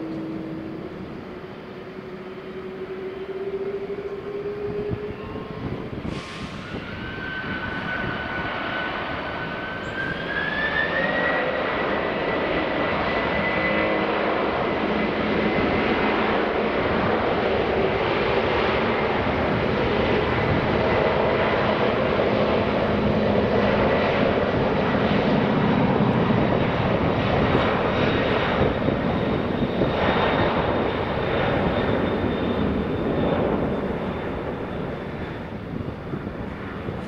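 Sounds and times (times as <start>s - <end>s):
jet engines at takeoff power: 0.0s - 37.0s.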